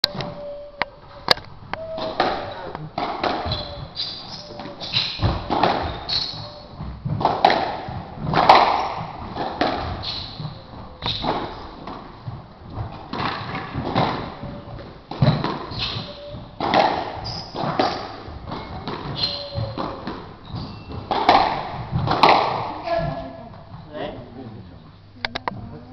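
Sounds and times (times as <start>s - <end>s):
sneakers squeaking on wooden floor: 0.0s - 23.9s
squash ball hitting rackets and walls: 1.3s - 23.8s.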